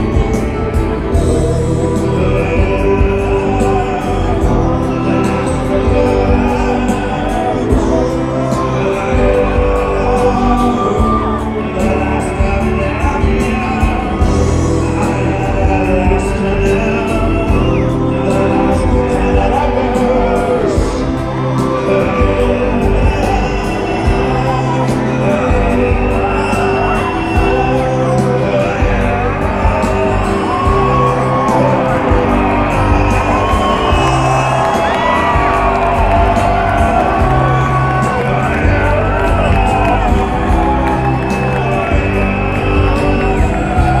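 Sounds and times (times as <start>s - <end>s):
crowd shouting and whooping: 0.0s - 44.0s
live rock band: 0.0s - 44.0s.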